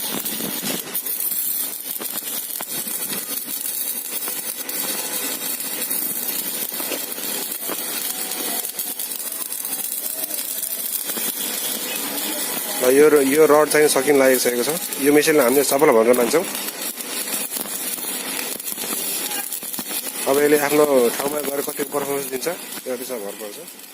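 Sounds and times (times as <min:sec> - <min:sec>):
welding arc crackling: 0:00.0 - 0:23.9.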